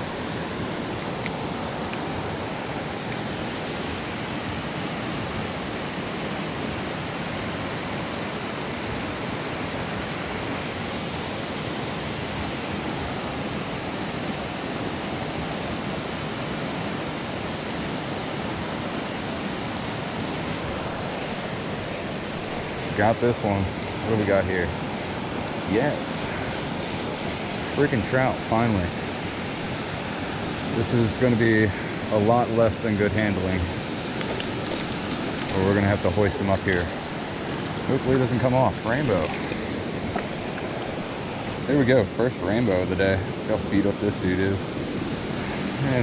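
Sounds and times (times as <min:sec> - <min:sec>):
creek rushing over rocks: 0:00.0 - 0:46.0.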